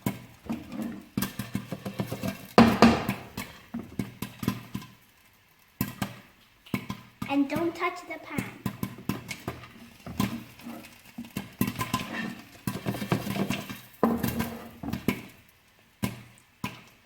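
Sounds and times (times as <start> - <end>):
popcorn popping in a pan: 0.0 - 17.0.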